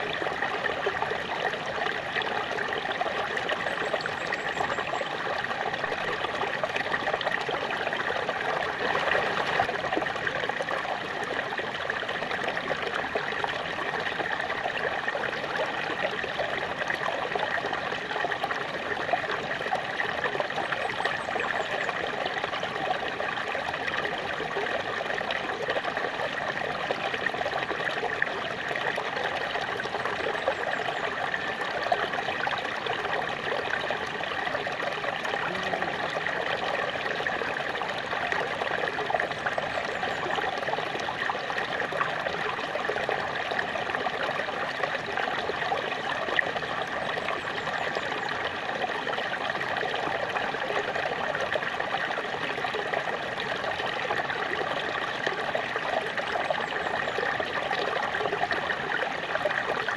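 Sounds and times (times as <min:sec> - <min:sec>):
waterfall splashing and trickling: 0:00.0 - 0:59.9.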